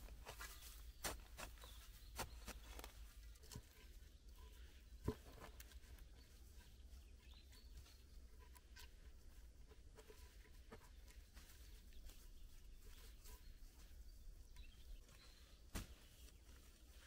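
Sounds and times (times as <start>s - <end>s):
soil being worked by hand: 0.0s - 17.0s.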